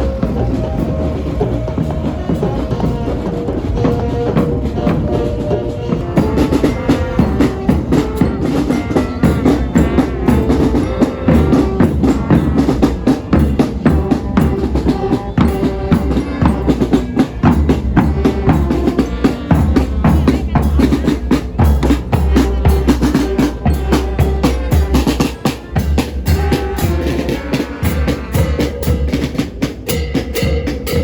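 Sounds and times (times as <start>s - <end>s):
music with driving drum beat: 0.0s - 31.0s.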